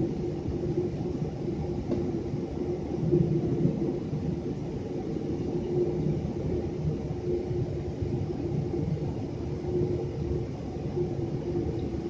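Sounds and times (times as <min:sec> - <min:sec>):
wheels rolling on taxiway: 0:00.0 - 0:12.0.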